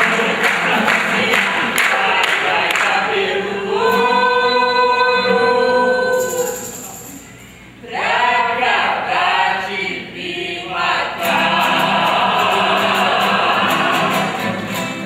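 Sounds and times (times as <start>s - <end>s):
voices singing in chorus: 0.0s - 6.8s, 7.8s - 15.0s.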